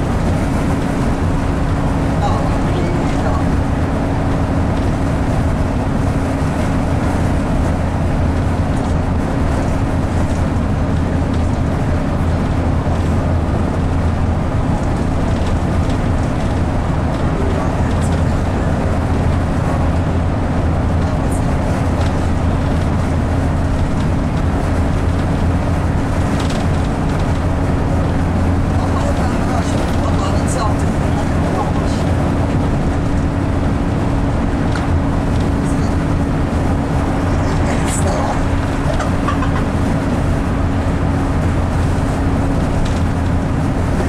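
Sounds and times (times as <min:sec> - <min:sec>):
bus engine droning: 0:00.0 - 0:44.0.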